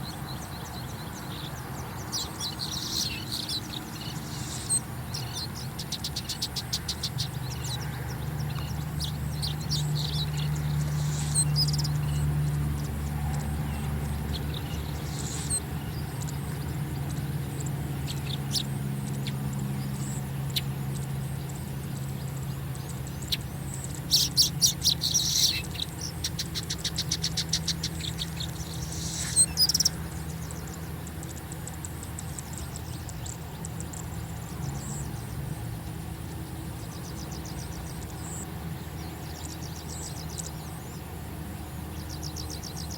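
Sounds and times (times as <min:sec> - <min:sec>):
birds chirping and chattering: 0:00.0 - 0:42.9
steady low hum: 0:00.0 - 0:42.9.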